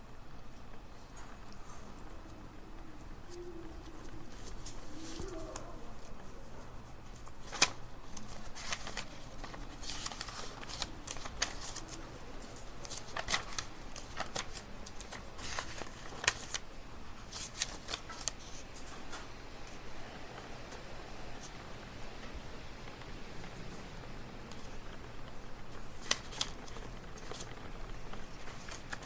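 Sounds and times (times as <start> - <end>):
low room hum: 0.0 - 29.0
soft paper rustles: 0.3 - 29.0.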